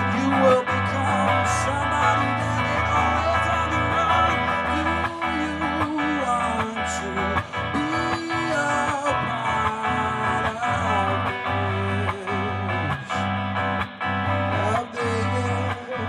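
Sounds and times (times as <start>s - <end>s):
man singing: 0.0s - 13.3s, 14.5s - 16.0s
electric guitar strumming: 0.0s - 16.0s.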